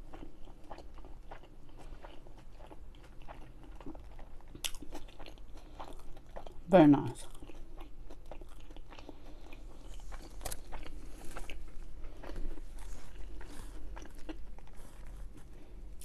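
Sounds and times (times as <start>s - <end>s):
close-up chewing: 0.0s - 16.0s.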